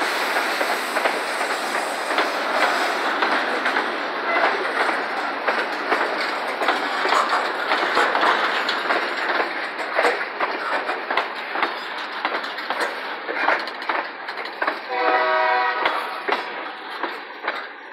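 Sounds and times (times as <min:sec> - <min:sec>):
freight train rolling past: 0:00.0 - 0:17.9
wheels clicking on track: 0:00.0 - 0:17.9.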